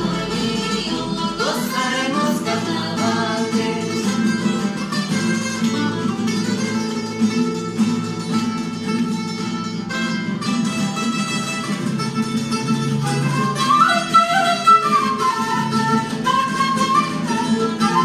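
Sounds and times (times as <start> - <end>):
mandolin and acoustic guitars tune: 0.0 - 18.0.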